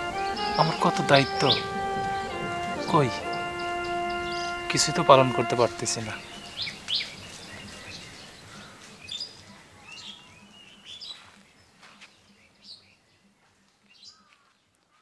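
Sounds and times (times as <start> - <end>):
birds chirping: 0.0 - 15.0
faint outdoor hiss: 0.0 - 15.0.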